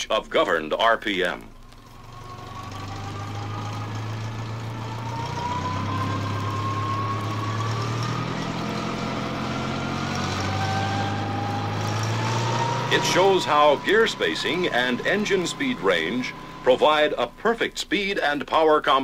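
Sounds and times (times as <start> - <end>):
tractor engine running: 0.0 - 19.0
low rising tone: 1.5 - 17.4.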